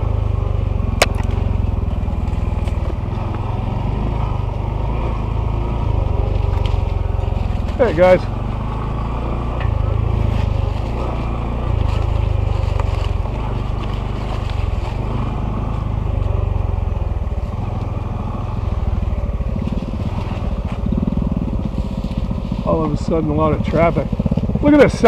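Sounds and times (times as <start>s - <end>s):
motorcycle engine running: 0.0s - 25.0s
motorcycle rattling over bumps: 0.0s - 25.0s.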